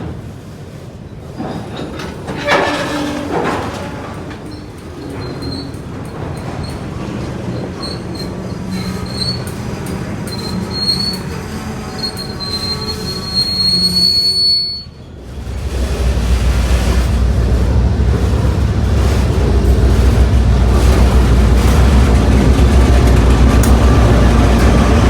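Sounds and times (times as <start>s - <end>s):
train low rumble: 0.0s - 25.0s
train wheel flange squeal: 1.0s - 25.0s.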